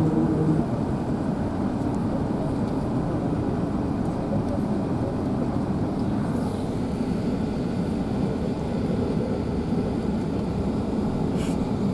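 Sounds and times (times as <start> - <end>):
airplane cabin low rumble: 0.0 - 11.9.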